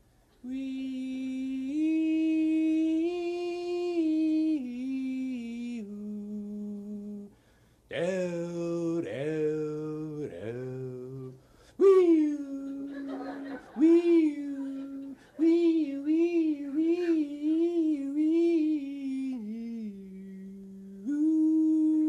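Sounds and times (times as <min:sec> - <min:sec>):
man singing a cappella: 0:00.3 - 0:22.0.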